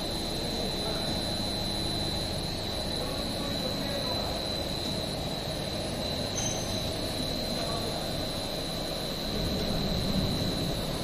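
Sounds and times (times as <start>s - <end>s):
high-pitched machine whine: 0.0s - 11.0s
machine hum and rush: 0.0s - 11.0s.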